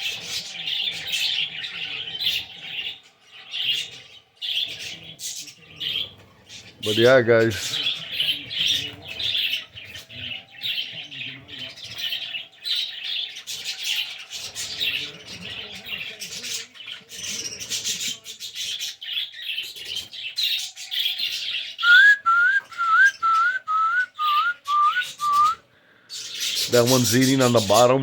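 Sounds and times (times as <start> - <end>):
birds chirping and twittering: 0.0 - 28.0.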